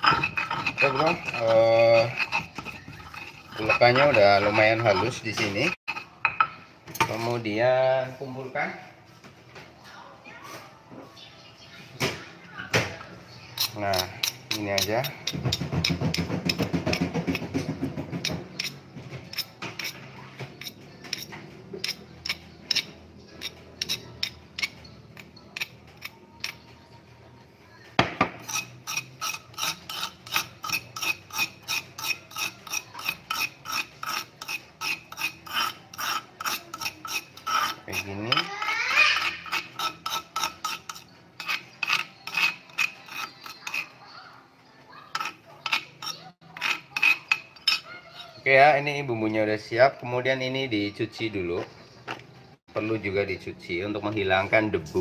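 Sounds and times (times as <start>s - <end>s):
spoon and pestle scraping stone mortar: 0.0s - 8.5s, 13.0s - 27.1s, 27.7s - 44.4s, 45.1s - 52.9s.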